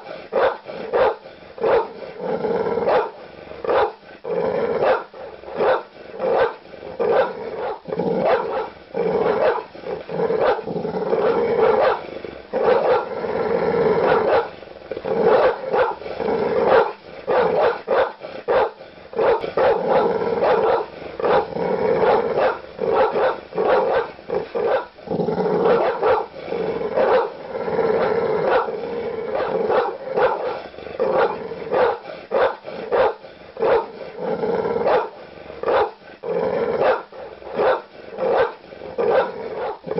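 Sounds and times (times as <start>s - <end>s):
large dog barking: 0.0s - 13.2s, 13.8s - 39.9s.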